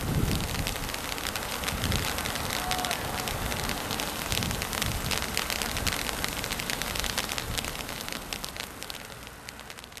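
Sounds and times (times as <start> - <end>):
firework hissing and crackling: 0.0 - 10.0.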